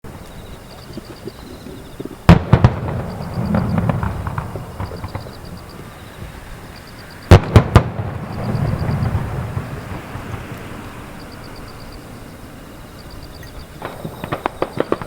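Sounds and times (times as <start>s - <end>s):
fireworks bangs: 0.1s - 15.0s
rolling rumble: 0.1s - 15.0s.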